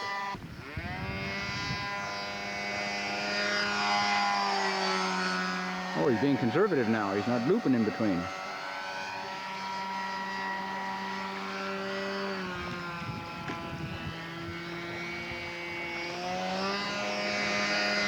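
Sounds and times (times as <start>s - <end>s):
model plane engine and propeller: 0.0s - 18.0s.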